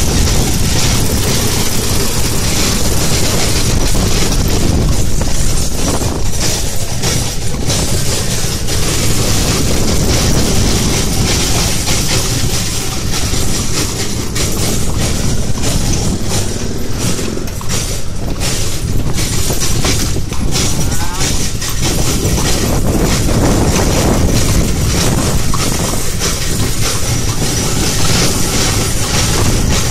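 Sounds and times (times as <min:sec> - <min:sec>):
horse-drawn cart rolling: 0:00.0 - 0:29.9
wooden wheels rattling and clacking: 0:00.0 - 0:29.9.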